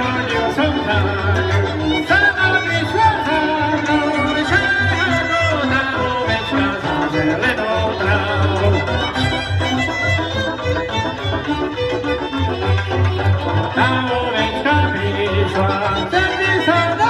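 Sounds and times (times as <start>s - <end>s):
folk string band with fiddles: 0.0s - 17.0s.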